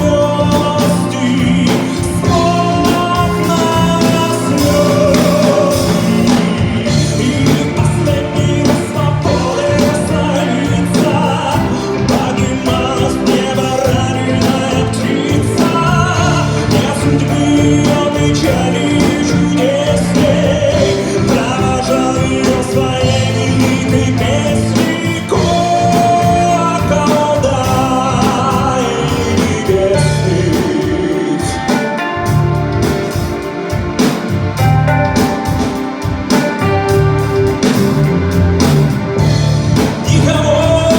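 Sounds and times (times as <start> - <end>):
man singing a ballad: 0.0 - 34.3, 39.2 - 40.9
band accompaniment: 0.0 - 40.9.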